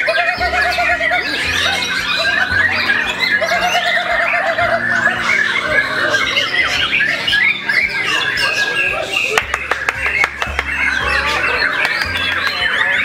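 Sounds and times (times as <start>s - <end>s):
low warbling bird trill: 0.0s - 13.0s
songbirds singing: 0.0s - 13.0s.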